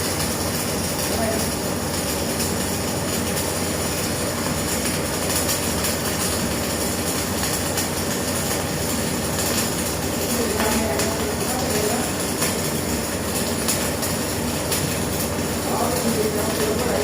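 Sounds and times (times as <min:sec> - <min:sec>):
arc welding noise: 0:00.0 - 0:17.0.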